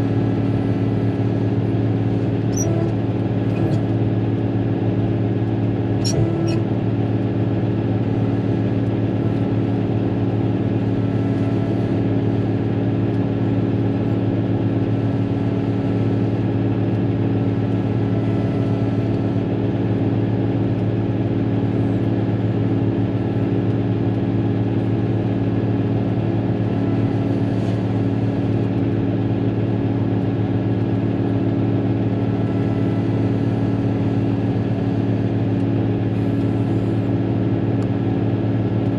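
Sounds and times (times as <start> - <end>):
diesel engine running from cab: 0.0 - 38.9.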